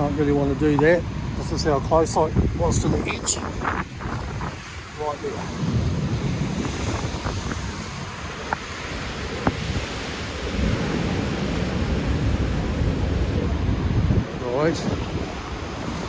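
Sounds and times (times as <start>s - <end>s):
heavy surf breaking: 0.0s - 16.0s
wind buffeting microphone: 0.0s - 16.0s.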